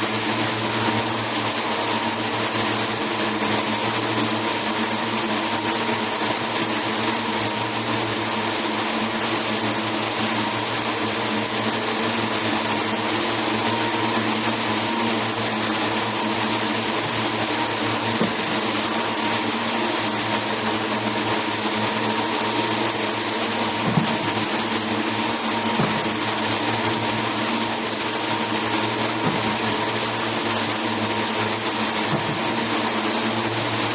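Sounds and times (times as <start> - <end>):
spinning machinery hissing and humming: 0.0 - 33.9.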